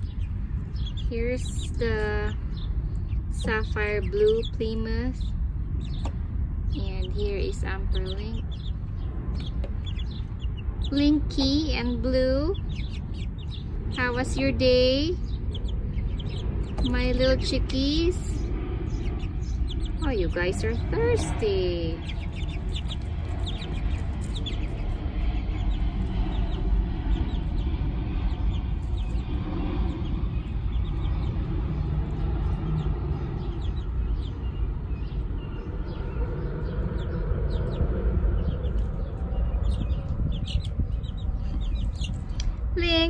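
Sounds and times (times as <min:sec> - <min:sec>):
chicks peeping and clucking: 0:00.0 - 0:29.4, 0:30.0 - 0:42.6
steady low rumble: 0:00.0 - 0:43.0.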